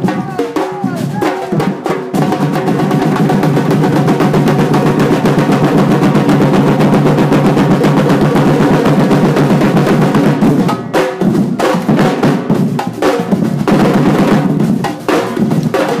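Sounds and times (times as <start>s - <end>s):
drum group playing: 0.0s - 16.0s.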